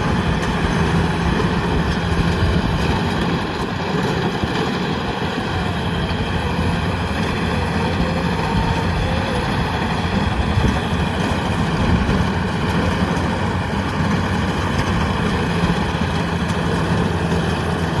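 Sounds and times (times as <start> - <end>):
combine harvester diesel engine: 0.0 - 18.0.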